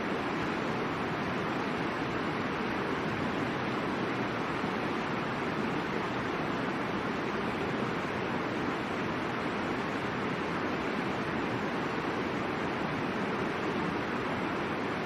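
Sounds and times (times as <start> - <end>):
river flowing over rocks: 0.0 - 15.0.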